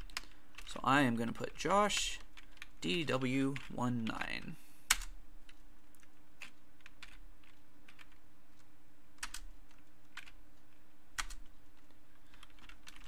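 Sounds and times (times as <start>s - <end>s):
computer keyboard typing: 0.0s - 13.0s.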